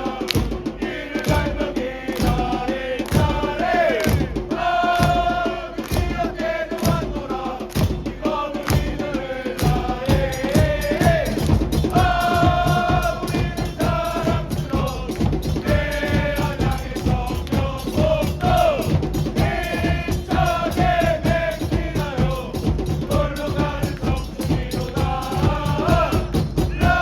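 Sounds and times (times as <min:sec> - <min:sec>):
crowd chanting in unison: 0:00.0 - 0:27.0
fast drum beat: 0:00.0 - 0:27.0.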